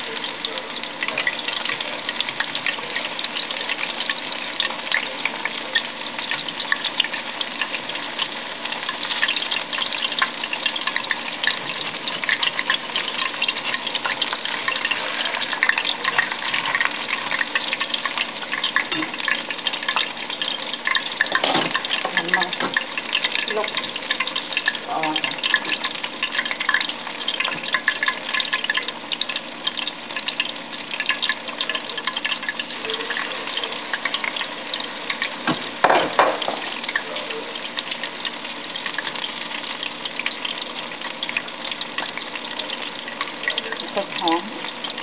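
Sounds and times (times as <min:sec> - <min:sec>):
pancakes deep-frying in oil: 0:00.0 - 0:45.0.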